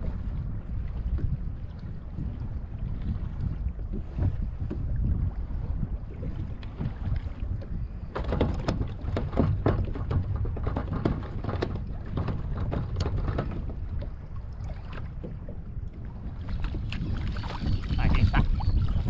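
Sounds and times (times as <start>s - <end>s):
water slapping against kayak hull: 0.0s - 19.0s
wind buffeting microphone: 0.0s - 19.0s.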